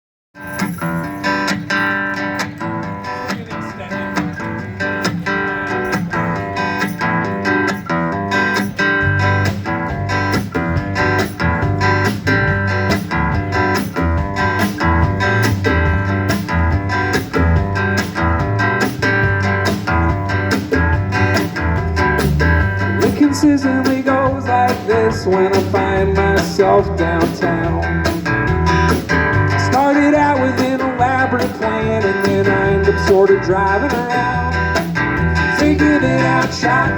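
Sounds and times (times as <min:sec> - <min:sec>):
bass guitar: 0:00.4 - 0:36.9
strummed guitar: 0:00.4 - 0:36.9
steady drum beat: 0:02.8 - 0:36.9.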